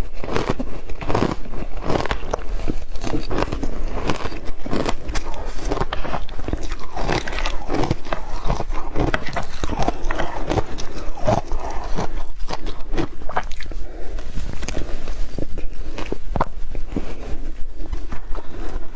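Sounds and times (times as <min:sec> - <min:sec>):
chewing crunchy ice: 0:00.0 - 0:18.9.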